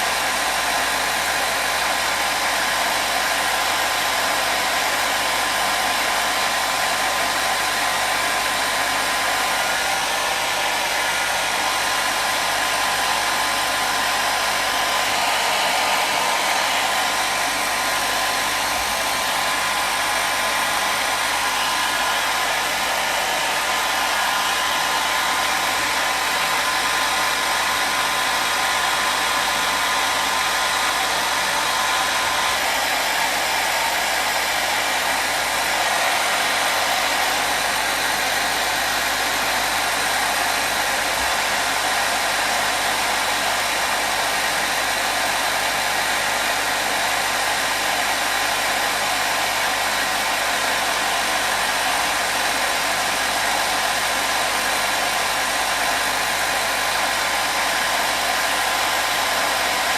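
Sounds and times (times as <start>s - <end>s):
hair dryer whooshing: 0.0s - 59.9s.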